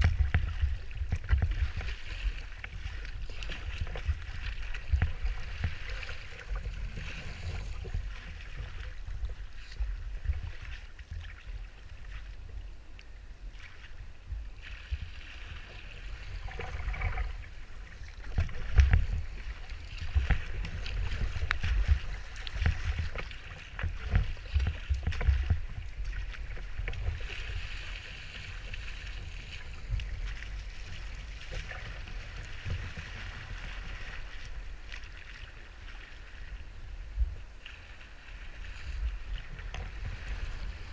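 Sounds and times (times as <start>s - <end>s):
choppy water splashing: 0.0s - 40.9s.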